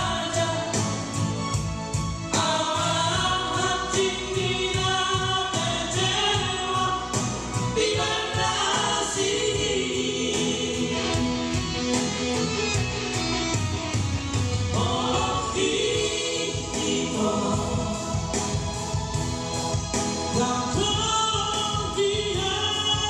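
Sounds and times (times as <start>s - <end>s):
group singing in harmony: 0.0s - 12.2s, 14.6s - 23.0s
instrumental accompaniment: 0.0s - 23.0s.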